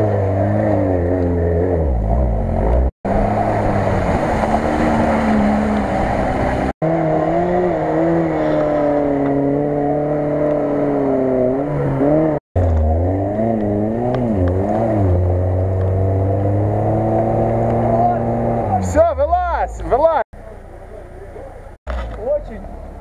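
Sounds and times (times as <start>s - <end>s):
car engines revving hard: 0.0s - 20.2s.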